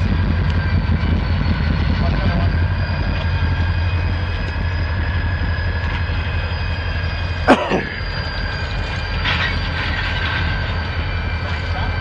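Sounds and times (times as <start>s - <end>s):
diesel locomotives rumbling: 0.0s - 12.0s
steady whine: 0.0s - 12.0s.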